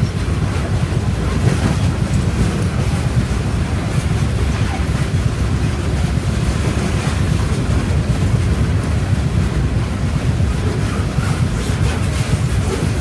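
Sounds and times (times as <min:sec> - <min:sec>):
freight train rumbling past: 0:00.0 - 0:13.0
wind buffeting microphone: 0:00.0 - 0:13.0.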